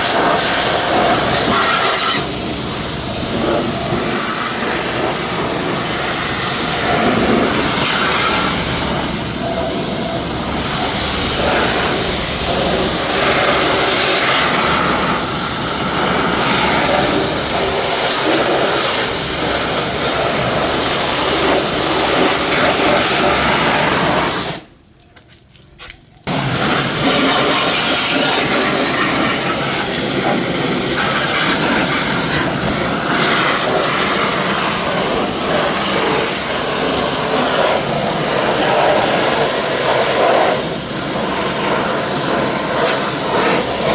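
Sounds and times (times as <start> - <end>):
pressure washer spraying: 0.0 - 24.7, 26.3 - 43.9.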